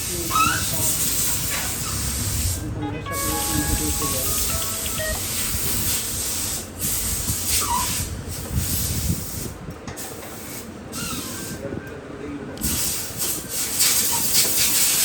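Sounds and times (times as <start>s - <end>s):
loud spraying hiss: 0.0s - 2.6s, 3.2s - 11.5s, 12.6s - 15.0s.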